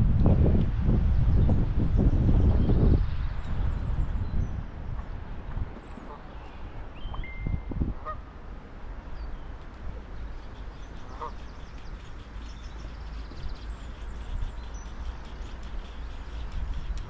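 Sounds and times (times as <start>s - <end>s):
wind on microphone: 0.0s - 8.3s, 9.8s - 17.0s.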